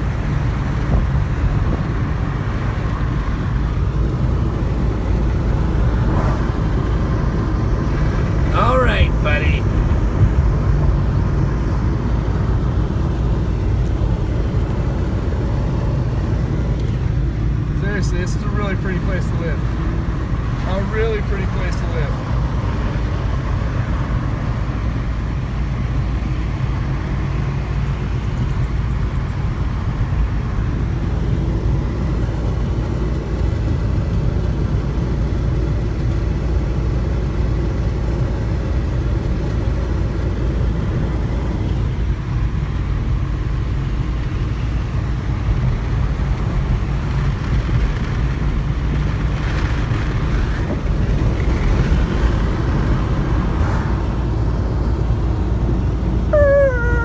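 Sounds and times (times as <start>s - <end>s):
car cabin driving rumble: 0.0s - 57.0s.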